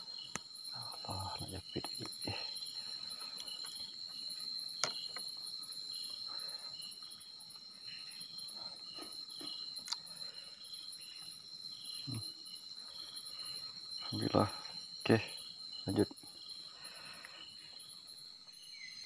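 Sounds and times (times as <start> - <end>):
crickets chirping: 0.0 - 19.0
insect high trill: 0.0 - 19.0.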